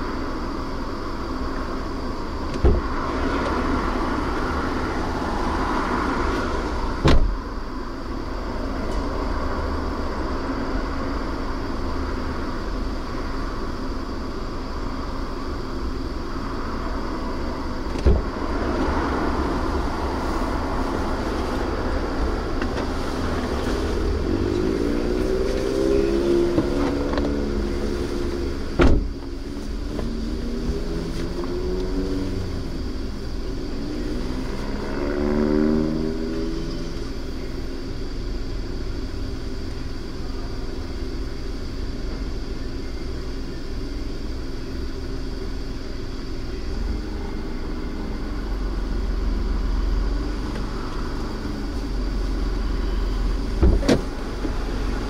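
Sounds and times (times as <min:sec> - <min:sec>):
low rumble inside a car: 0:00.0 - 0:55.0
wavering whine: 0:00.0 - 0:55.0.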